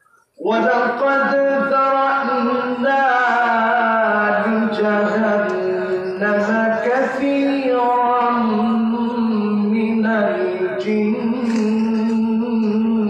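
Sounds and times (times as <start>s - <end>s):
man chanting recitation: 0.4s - 13.0s.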